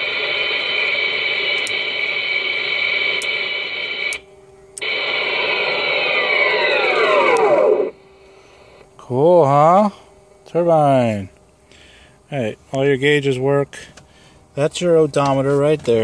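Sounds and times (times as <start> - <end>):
jet turbine whine: 0.0 - 16.0.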